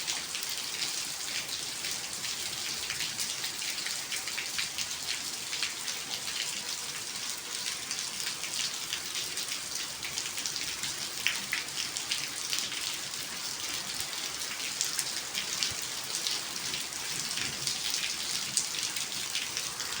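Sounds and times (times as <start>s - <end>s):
rain pattering on hard surface: 1.4s - 20.0s.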